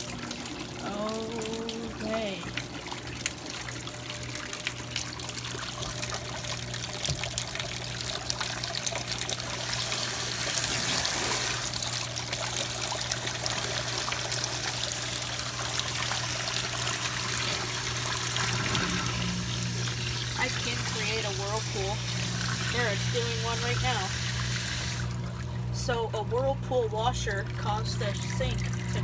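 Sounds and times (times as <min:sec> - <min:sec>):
washing machine hum: 0:00.0 - 0:29.0
water pouring into sink drain: 0:00.0 - 0:29.0.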